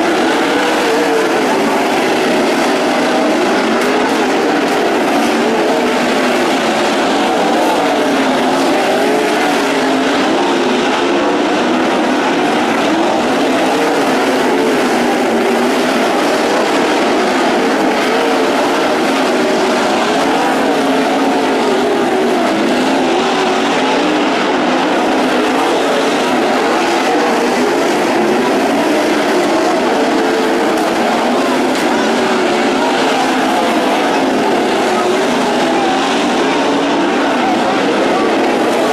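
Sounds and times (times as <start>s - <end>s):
race car engines racing: 0.0s - 38.9s.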